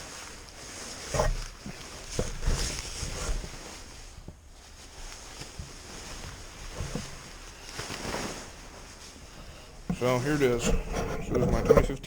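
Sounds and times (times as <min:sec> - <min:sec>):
fabric cover rustling: 0:00.0 - 0:12.0.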